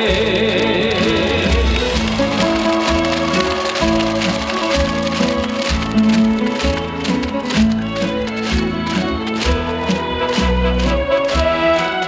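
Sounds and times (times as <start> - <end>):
instrumental backing music: 0.0 - 12.0.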